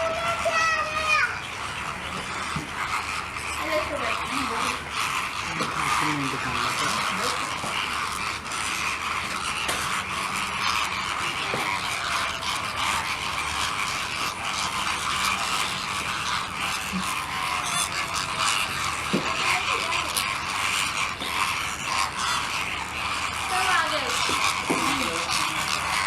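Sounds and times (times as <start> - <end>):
flamingos calling: 0.0 - 26.0.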